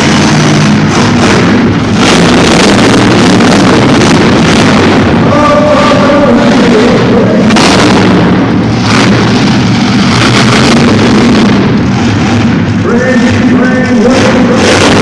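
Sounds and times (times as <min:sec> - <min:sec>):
loud truck engine revving: 0:00.0 - 0:15.0
sharp bangs: 0:00.0 - 0:15.0.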